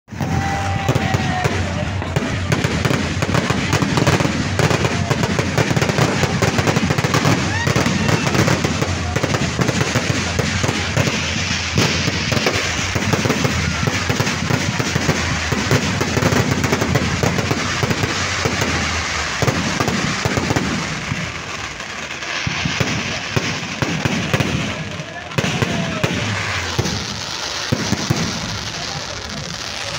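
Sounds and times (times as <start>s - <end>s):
fireworks crackling and banging: 0.1s - 29.9s.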